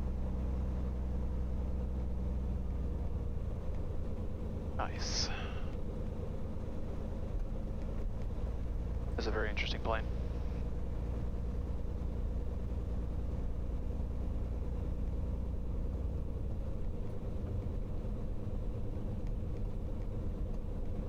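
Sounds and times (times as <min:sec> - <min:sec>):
aircraft engine droning in cabin: 0:00.0 - 0:21.0.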